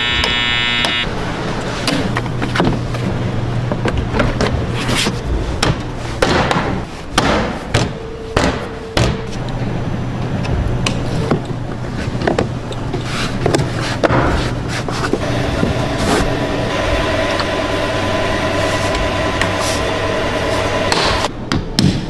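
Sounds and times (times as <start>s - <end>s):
low machine hum: 0.0s - 21.5s.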